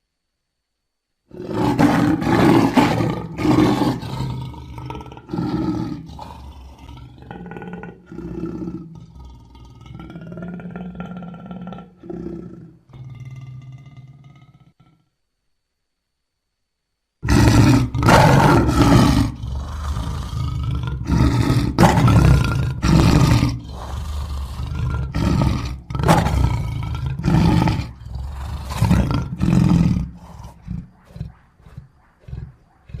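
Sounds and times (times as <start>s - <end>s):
lion grunting: 1.3s - 15.0s, 17.2s - 33.0s
lion roaring: 1.3s - 15.0s, 17.2s - 33.0s.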